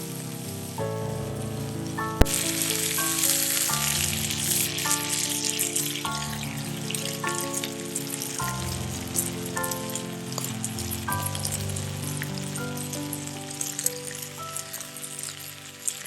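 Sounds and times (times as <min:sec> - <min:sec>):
campfire sizzling and crackling: 0:00.0 - 0:16.0
soft background music: 0:00.0 - 0:16.0.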